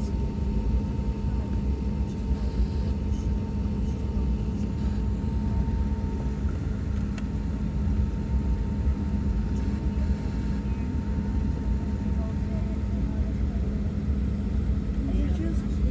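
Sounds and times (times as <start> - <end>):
airliner cabin rumble: 0.0 - 15.9
constant hum: 0.0 - 15.9.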